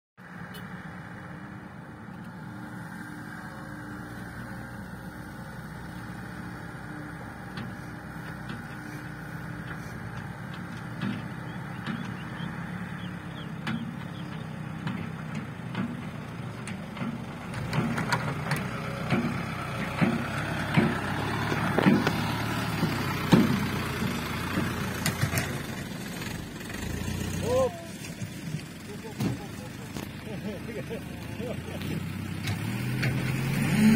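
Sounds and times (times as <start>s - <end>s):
diesel engines running: 0.2s - 33.9s.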